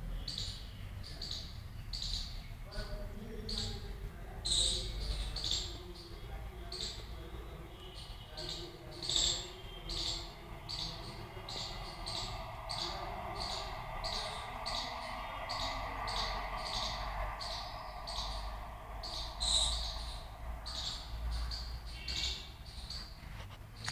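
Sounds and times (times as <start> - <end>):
faint background noise: 0.0 - 23.9.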